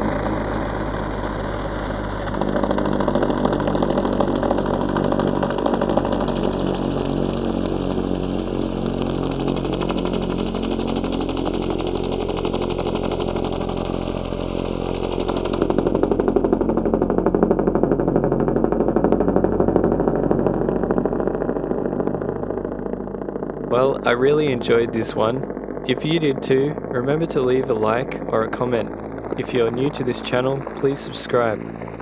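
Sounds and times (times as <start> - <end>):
motor hum: 0.0 - 32.0
synthesized helicopter blade pulse: 0.0 - 32.0.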